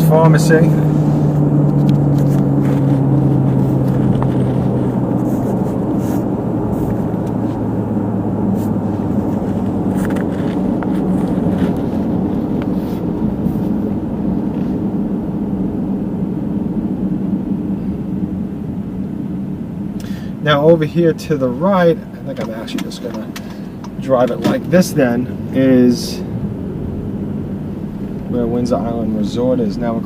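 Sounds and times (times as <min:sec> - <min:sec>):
car engine and tyre drone: 0:00.0 - 0:30.0.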